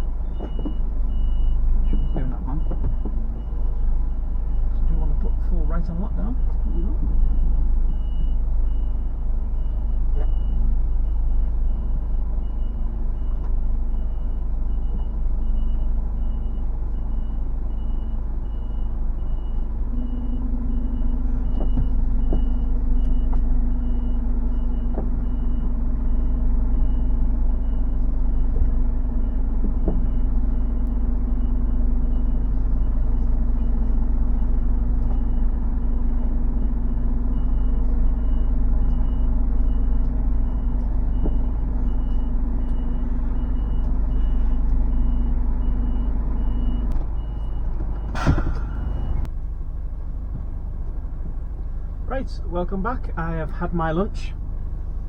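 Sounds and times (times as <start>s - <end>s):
reversing alarm beeping: 0.0s - 34.5s, 35.1s - 49.3s
lorry diesel engine: 0.0s - 55.0s.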